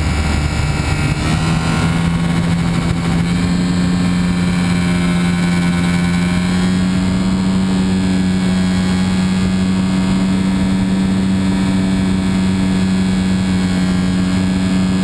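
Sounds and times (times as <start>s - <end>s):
model airplane motor humming: 0.0s - 15.0s.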